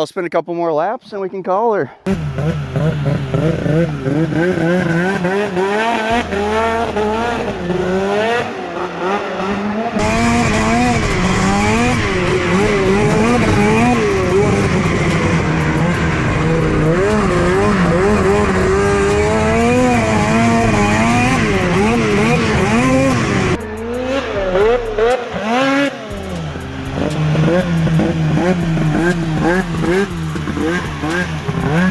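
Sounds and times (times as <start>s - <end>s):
snowmobile engine revving: 2.1s - 31.9s.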